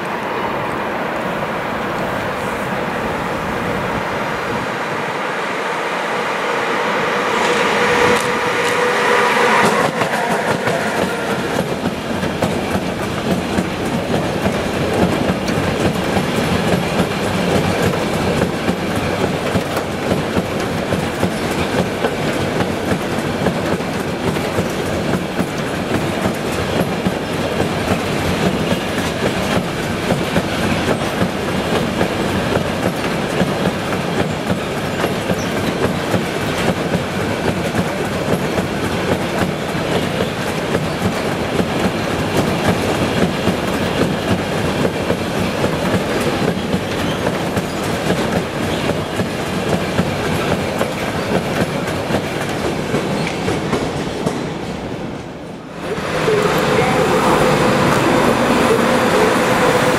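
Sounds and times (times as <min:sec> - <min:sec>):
train wagons clattering over rails: 0:07.1 - 0:59.9.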